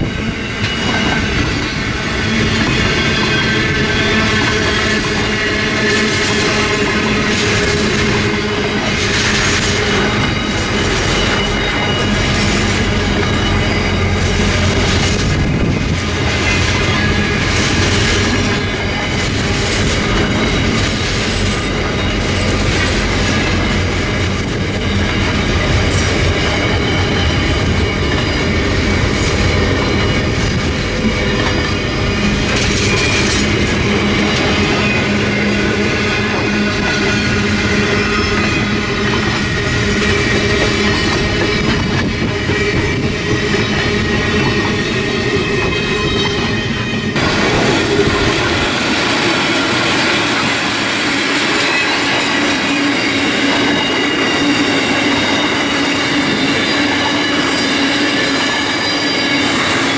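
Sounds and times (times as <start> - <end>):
freight train wheels rumbling: 0.0 - 59.9
high wheel squeal: 0.0 - 59.9.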